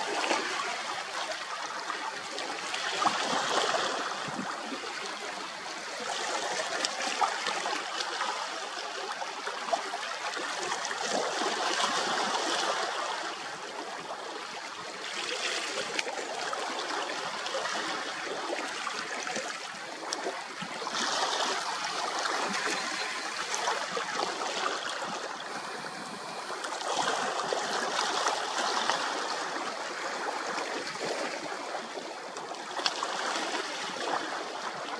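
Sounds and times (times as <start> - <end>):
small waves lapping on rocks: 0.0 - 34.9.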